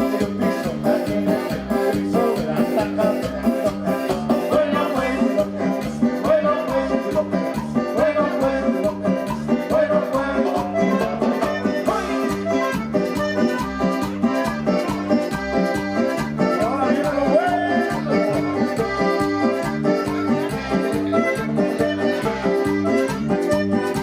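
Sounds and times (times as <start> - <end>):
accordion-like lead melody: 0.0 - 24.0
live dance band music: 0.0 - 24.0.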